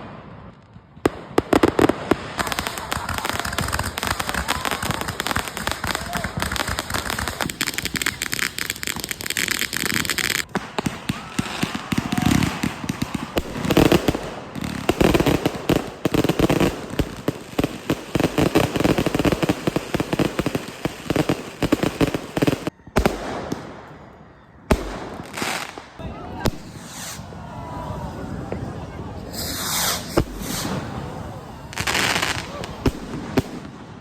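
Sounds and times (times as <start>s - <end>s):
fireworks crackling bangs and pops: 0.0s - 27.3s, 28.4s - 34.0s.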